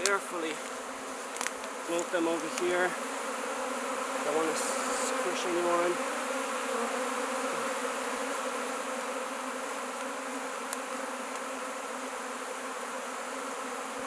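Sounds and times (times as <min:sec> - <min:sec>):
swarm of bees buzzing: 0:00.0 - 0:14.0.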